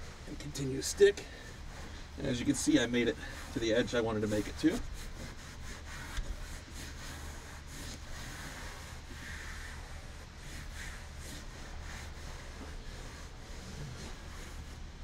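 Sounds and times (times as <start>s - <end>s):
hand brushing fabric: 0.0s - 15.0s.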